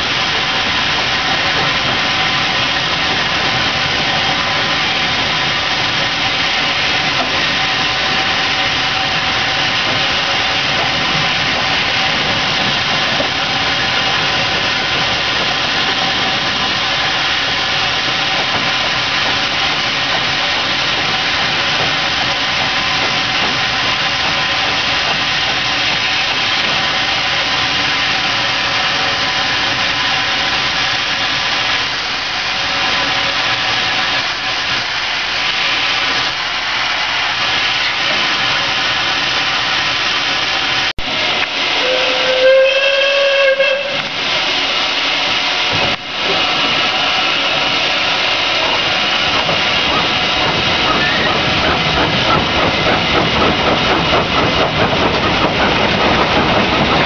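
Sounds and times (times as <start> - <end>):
steam locomotive running hiss: 0.0 - 57.0.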